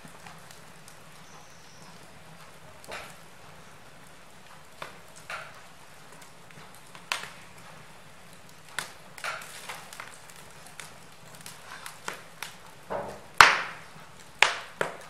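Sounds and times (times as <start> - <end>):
fire crackling pops: 0.0 - 15.0
fire hissing: 0.0 - 15.0.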